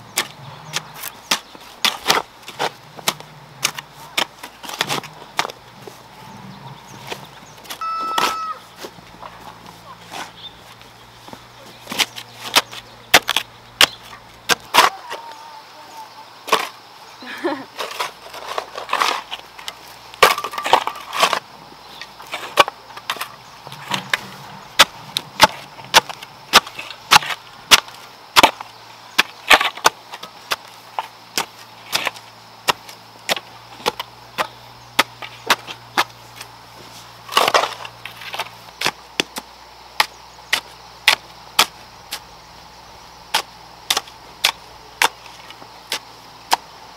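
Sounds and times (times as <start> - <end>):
shovel and hoe chopping stony soil: 0.0 - 6.0, 6.9 - 15.3, 16.4 - 16.8, 17.7 - 42.3, 43.2 - 46.8.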